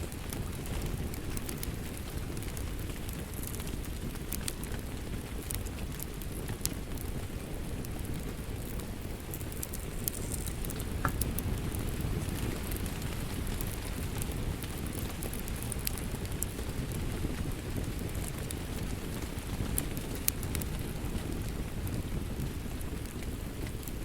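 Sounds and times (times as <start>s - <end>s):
steady rain: 0.0s - 24.0s
wood fire crackling and popping: 0.0s - 24.0s.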